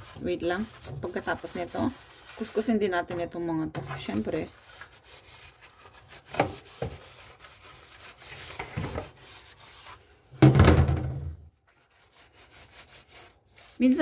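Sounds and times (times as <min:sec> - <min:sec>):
scrubbing water dispenser parts: 0:00.0 - 0:10.8, 0:11.5 - 0:14.0.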